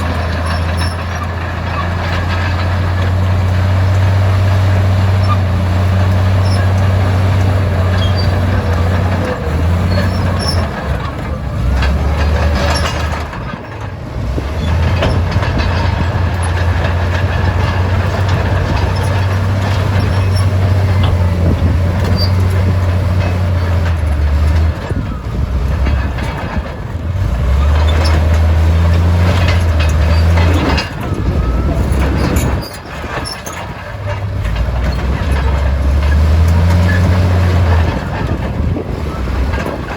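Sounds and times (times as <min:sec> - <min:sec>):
metallic clanks: 0:00.0 - 0:26.8, 0:27.4 - 0:39.9
bulldozer diesel engine: 0:00.0 - 0:39.9.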